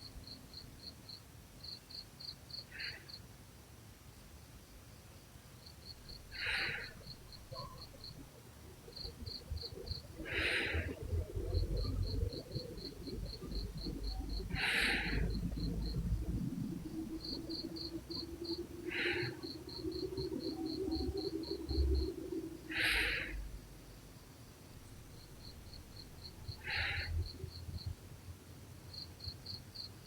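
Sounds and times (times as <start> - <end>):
cricket chirping: 0.0 - 3.2, 4.1 - 30.0.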